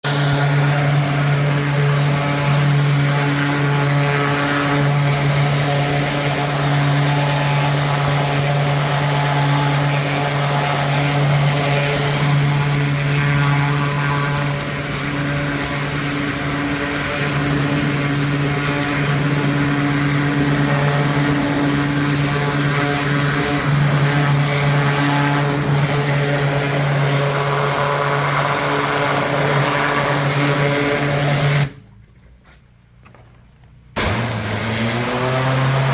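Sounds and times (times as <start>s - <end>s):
pressure washer engine drone: 0.0s - 32.0s, 34.0s - 35.9s
high hiss of water spray: 0.1s - 31.7s.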